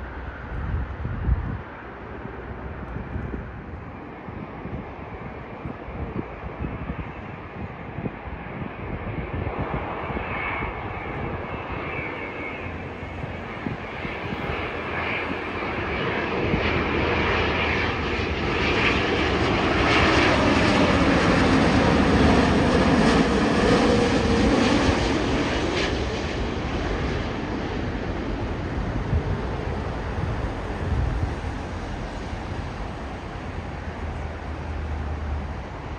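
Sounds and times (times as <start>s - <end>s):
jet airliner passing overhead: 0.0s - 35.9s.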